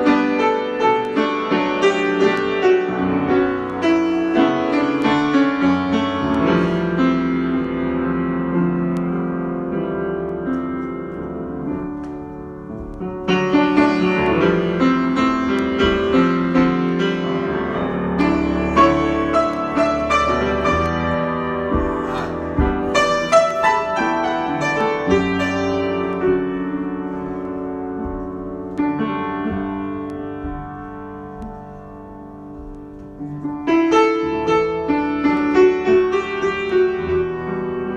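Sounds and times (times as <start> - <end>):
solo piano: 0.0 - 37.9.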